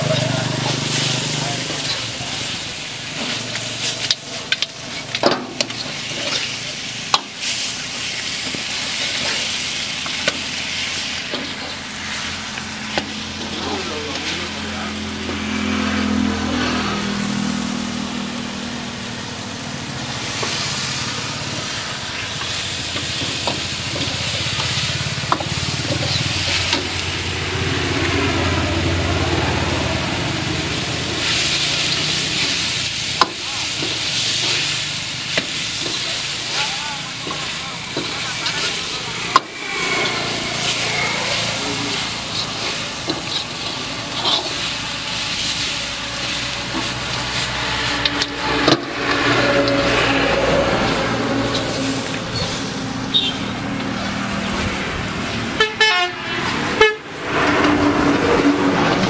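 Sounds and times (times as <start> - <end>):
metal ladle scraping a wok: 0.0 - 13.6, 20.2 - 55.7
chicken sizzling in a wok: 0.0 - 59.0.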